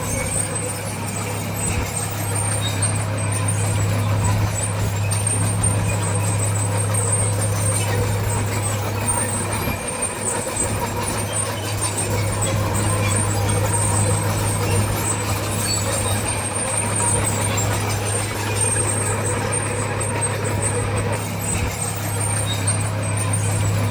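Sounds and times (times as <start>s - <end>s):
diesel machinery engine drone: 0.0s - 23.9s.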